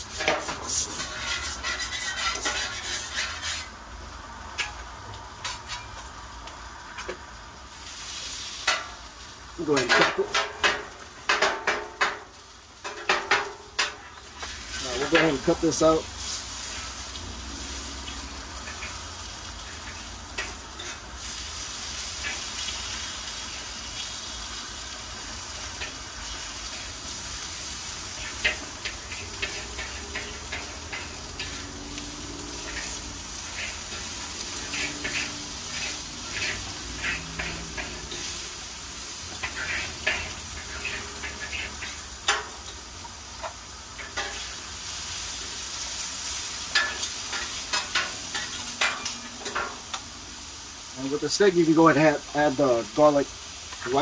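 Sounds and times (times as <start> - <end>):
steak sizzling on griddle: 0.0 - 54.0.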